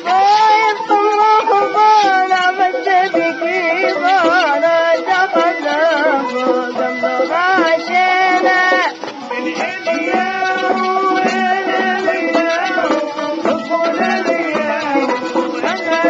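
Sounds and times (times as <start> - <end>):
light percussion: 0.0 - 16.0
melody with sliding notes: 0.0 - 16.0.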